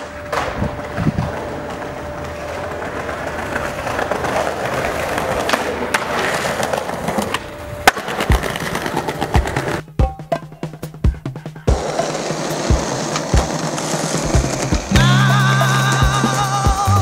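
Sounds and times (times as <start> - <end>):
skateboard cracking: 0.0 - 9.9, 11.7 - 16.2
skateboard wheels rolling on concrete: 0.0 - 11.0, 11.6 - 17.0
skateboard clacks: 0.0 - 17.0.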